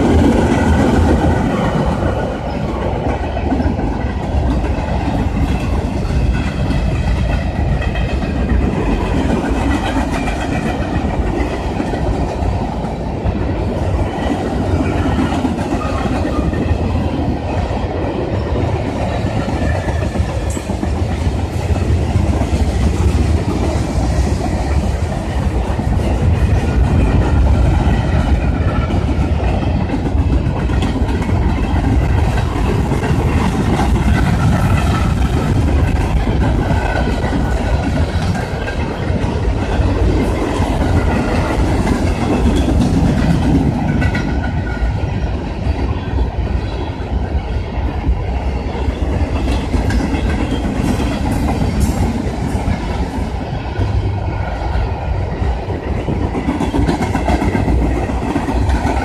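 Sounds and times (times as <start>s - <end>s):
clickety-clack over rail joints: 0.0s - 59.0s
steel wheels rumbling on rail: 0.0s - 59.0s.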